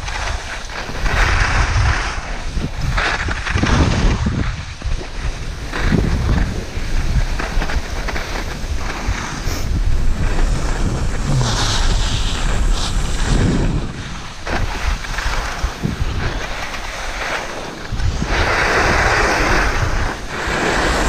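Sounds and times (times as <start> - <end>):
skis hissing on snow: 0.0 - 21.0
wind rushing over microphone: 0.0 - 21.0.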